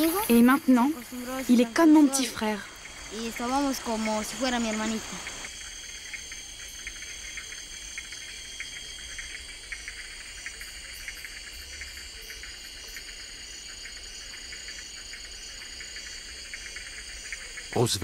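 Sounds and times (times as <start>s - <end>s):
insect trills: 0.0s - 18.0s.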